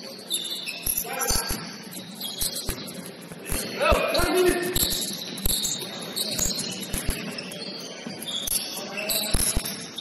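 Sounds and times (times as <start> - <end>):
sneakers squeaking: 0.0 - 10.0.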